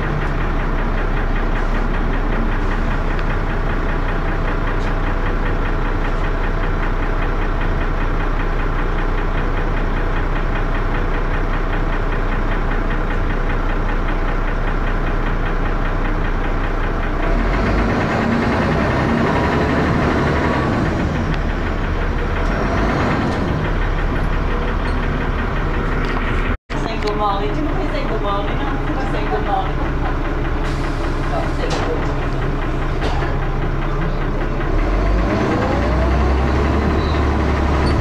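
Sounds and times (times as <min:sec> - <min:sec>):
bus diesel engine knocking: 0:00.0 - 0:38.0.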